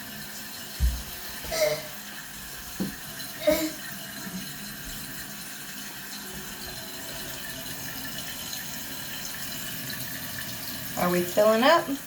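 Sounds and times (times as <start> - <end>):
toilet tank refilling: 0.0 - 12.0.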